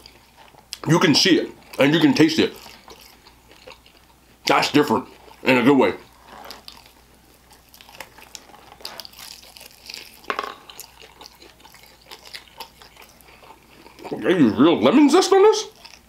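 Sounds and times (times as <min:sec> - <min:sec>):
person chewing wetly: 0:00.0 - 0:14.6, 0:15.2 - 0:16.0.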